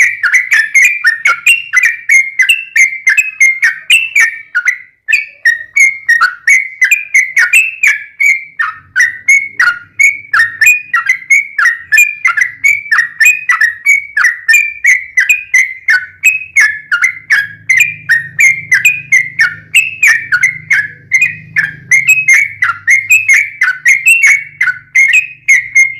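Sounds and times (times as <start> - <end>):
bird singing rapid whistled notes: 0.0 - 25.9.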